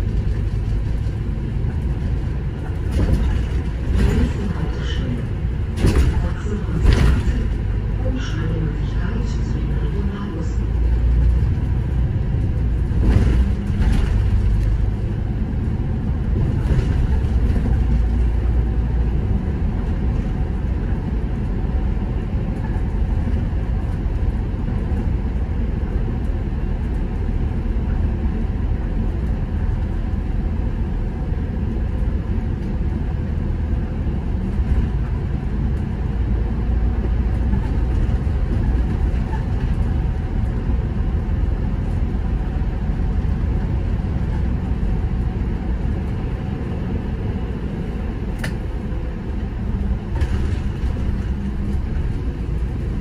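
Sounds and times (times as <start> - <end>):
bus engine and road noise rumble: 0.0 - 53.0.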